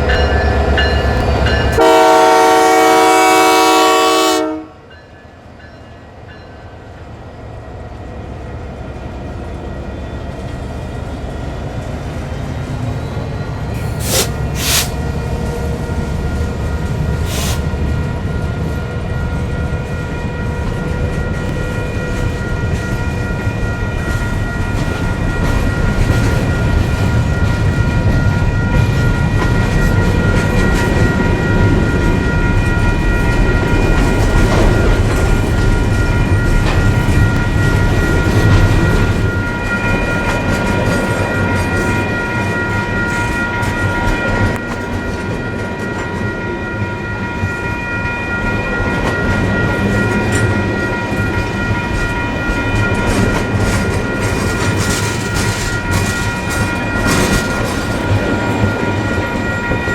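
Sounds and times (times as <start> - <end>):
freight train rumble: 0.0 - 59.9.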